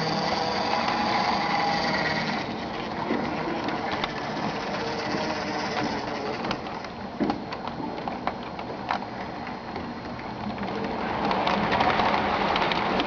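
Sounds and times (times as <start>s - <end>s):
model train motors whirring: 0.0s - 13.0s
wheels clicking over rail joints: 0.0s - 13.0s.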